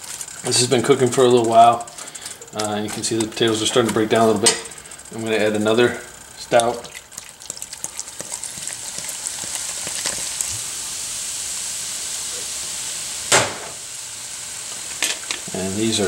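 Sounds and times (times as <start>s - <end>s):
beer fizzing in hot stew: 0.0s - 16.0s.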